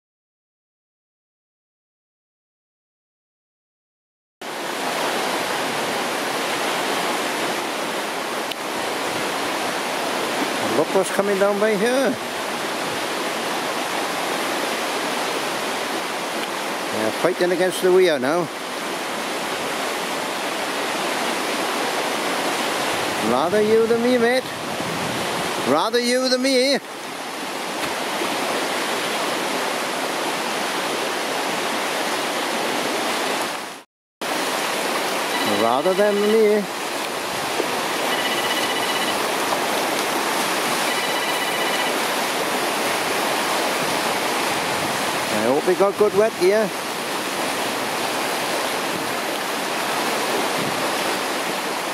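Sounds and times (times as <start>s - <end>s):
river rushing over rapids: 4.4s - 51.9s.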